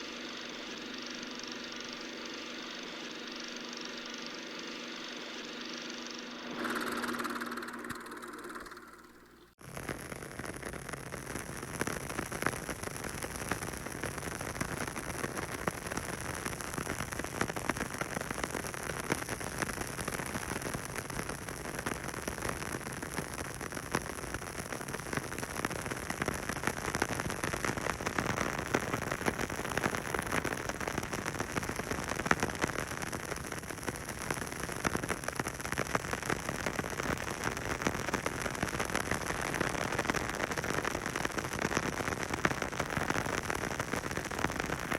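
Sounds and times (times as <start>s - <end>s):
film crackle with hiss: 0.0s - 44.9s.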